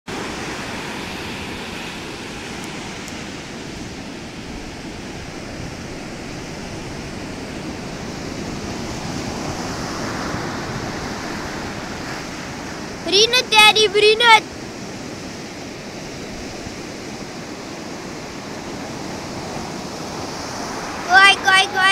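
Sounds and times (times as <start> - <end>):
ocean waves breaking: 0.1 - 21.9.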